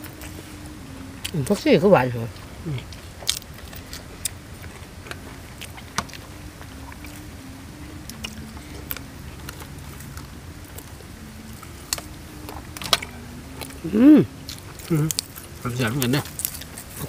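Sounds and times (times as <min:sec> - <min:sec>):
distant motor drone: 0:00.0 - 0:17.0
raw vegetables being chewed: 0:00.0 - 0:17.0.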